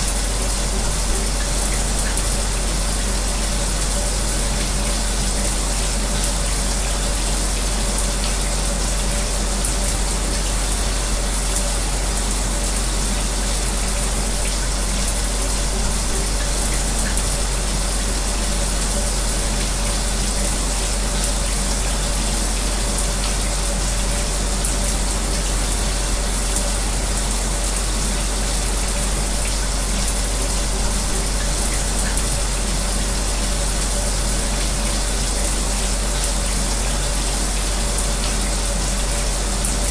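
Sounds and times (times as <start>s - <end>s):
electric fan humming: 0.0s - 39.9s
shower spray running: 0.0s - 39.9s.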